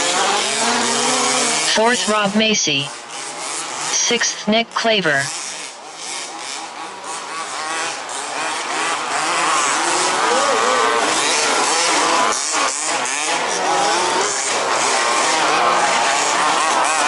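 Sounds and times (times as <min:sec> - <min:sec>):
small two-stroke engines revving: 0:00.0 - 0:17.0.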